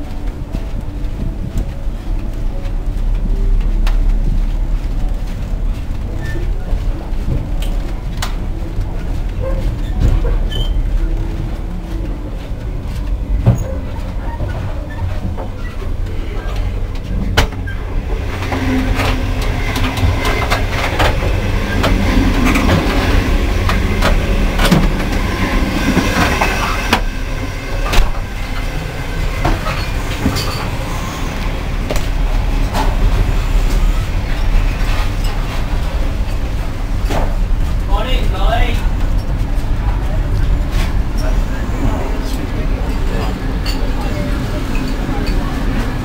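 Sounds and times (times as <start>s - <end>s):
train clicks and knocks: 0.0s - 46.0s
train running rumble: 0.0s - 46.0s.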